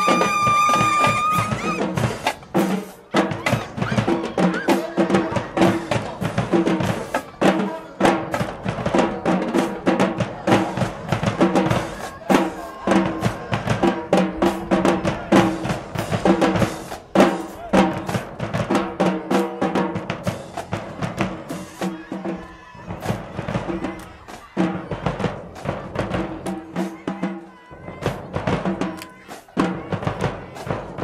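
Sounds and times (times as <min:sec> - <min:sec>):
marching band playing: 0:00.0 - 0:31.0
snare and bass drums: 0:00.0 - 0:31.0.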